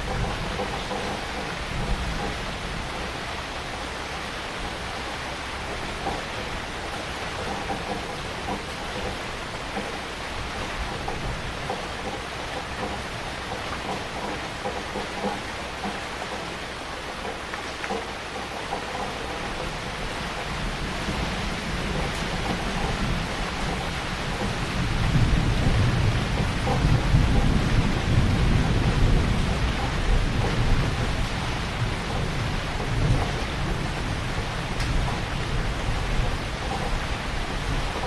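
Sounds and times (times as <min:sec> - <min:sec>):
low rumble of thunder: 0:00.0 - 0:16.4, 0:18.7 - 0:38.0
heavy rain falling: 0:00.0 - 0:38.0.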